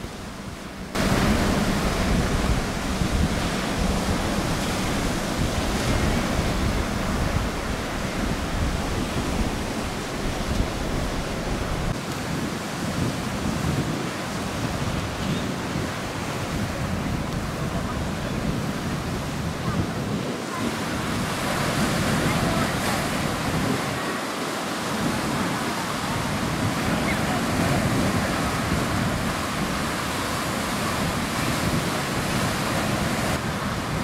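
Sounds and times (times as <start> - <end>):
wind buffeting microphone: 0.0 - 34.0
surf breaking over rocks: 0.8 - 34.0.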